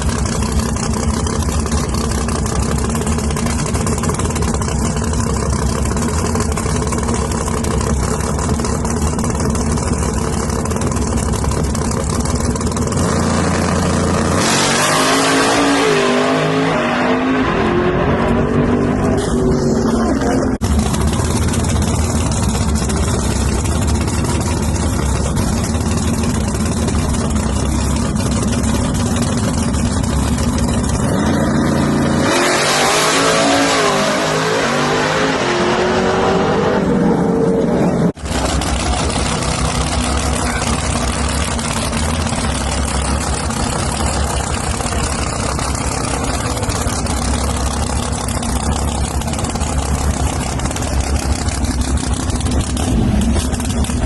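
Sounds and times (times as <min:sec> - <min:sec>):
racing engine revving: 0:10.2 - 0:54.0.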